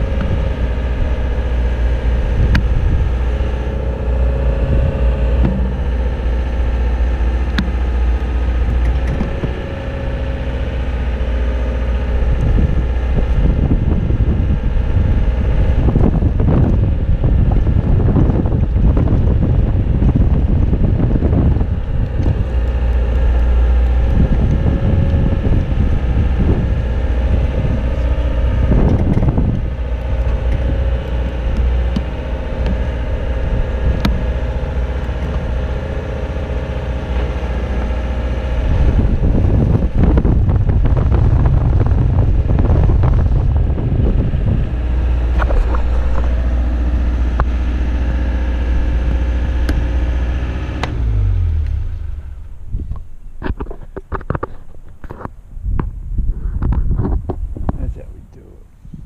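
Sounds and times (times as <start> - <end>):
engine humming: 0.0 - 59.0
wind buffeting microphone: 0.0 - 59.0.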